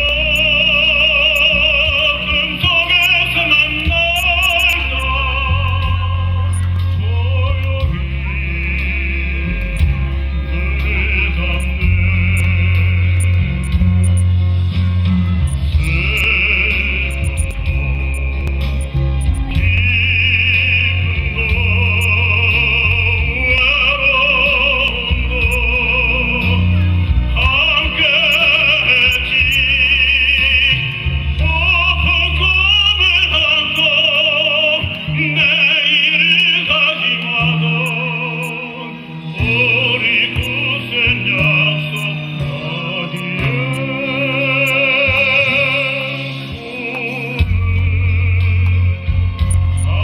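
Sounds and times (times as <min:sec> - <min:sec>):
person singing operatically: 0:00.0 - 0:13.8, 0:15.5 - 0:49.1
instrumental accompaniment: 0:00.0 - 0:50.0.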